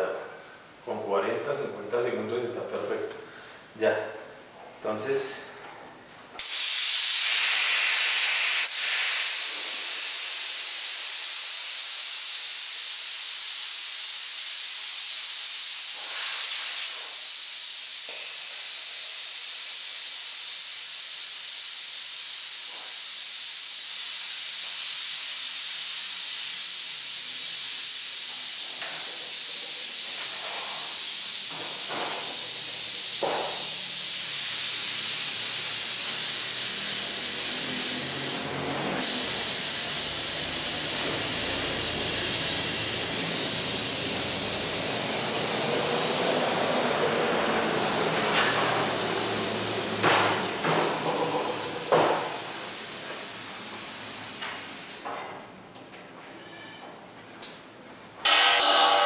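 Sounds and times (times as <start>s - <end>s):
compressed air hissing: 6.4s - 55.1s.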